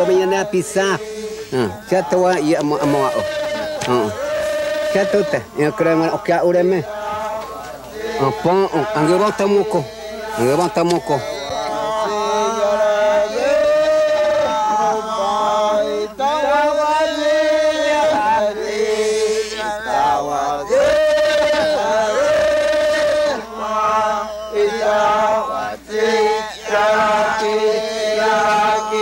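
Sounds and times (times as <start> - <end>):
men chanting: 0.0 - 29.0.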